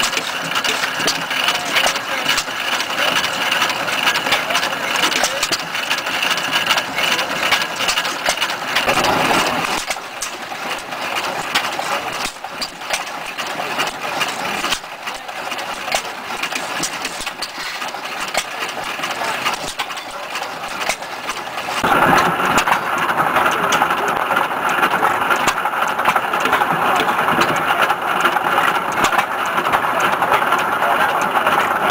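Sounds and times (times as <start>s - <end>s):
stationary engine running: 0.0s - 31.9s
valve gear clicking and clattering: 0.0s - 31.9s.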